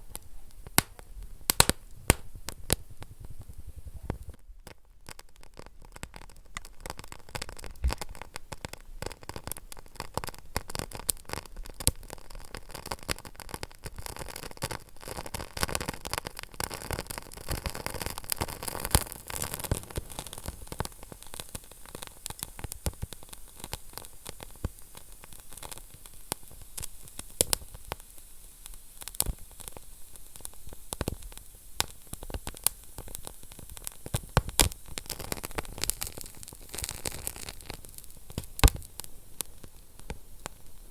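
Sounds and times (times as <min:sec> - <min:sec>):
wood fire hissing: 0:00.0 - 0:04.4, 0:06.0 - 0:40.9
burning logs crackling and popping: 0:00.0 - 0:40.9.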